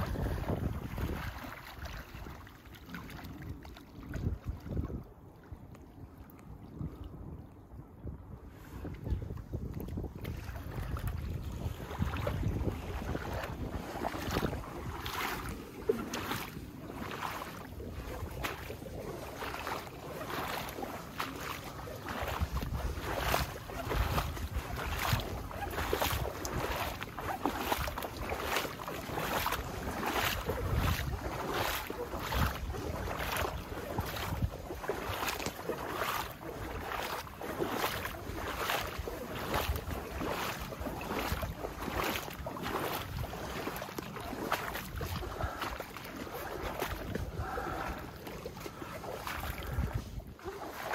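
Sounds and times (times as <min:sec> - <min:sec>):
wind buffeting microphone: 0:00.0 - 0:02.4, 0:03.0 - 0:05.7, 0:06.5 - 0:50.9
footsteps sloshing through water: 0:00.0 - 0:50.9.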